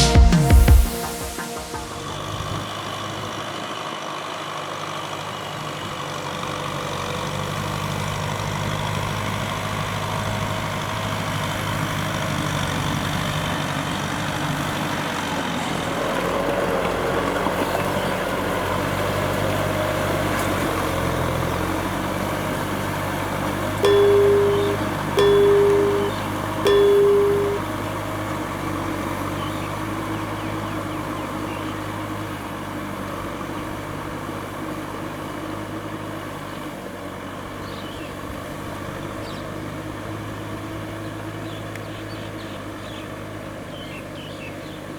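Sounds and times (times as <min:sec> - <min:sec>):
tractor diesel engine running: 0:00.8 - 0:44.9.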